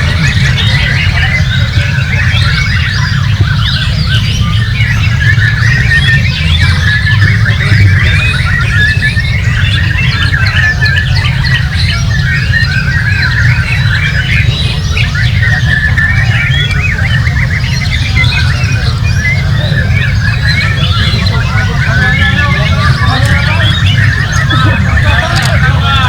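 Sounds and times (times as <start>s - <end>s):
songbirds chorus: 0.0s - 26.0s.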